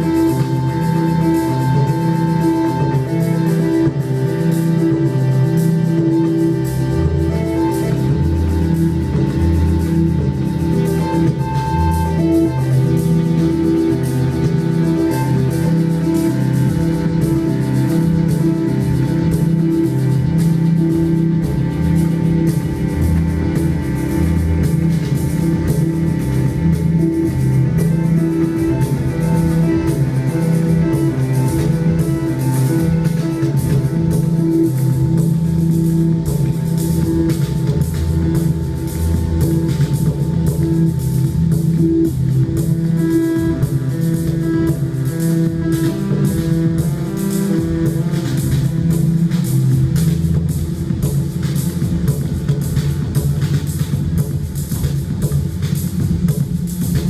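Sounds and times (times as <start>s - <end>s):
live instrumental music: 0.0s - 57.0s.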